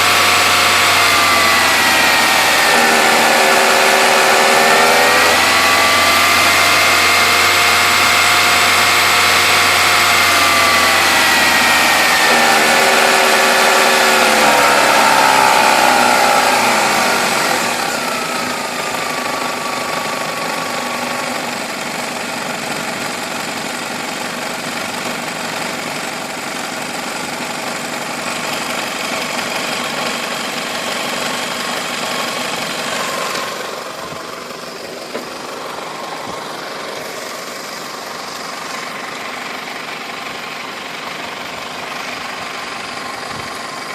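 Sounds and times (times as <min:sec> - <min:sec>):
car engine dropping to idle: 0:00.0 - 0:43.9.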